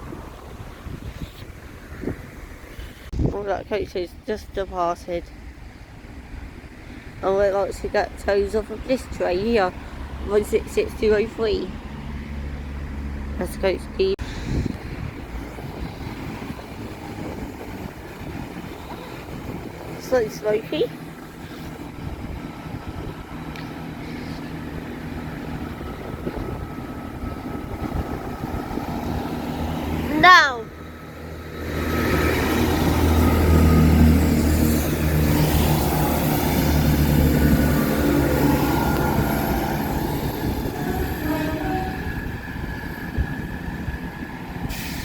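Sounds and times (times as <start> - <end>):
train diesel engines humming: 3.4 - 45.0.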